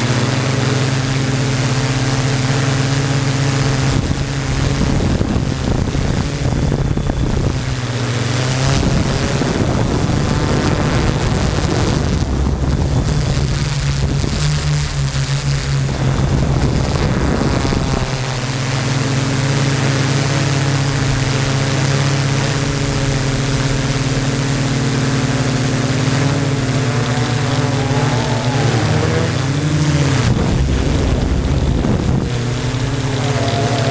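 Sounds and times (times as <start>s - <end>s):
drone propellers humming: 0.0s - 33.9s.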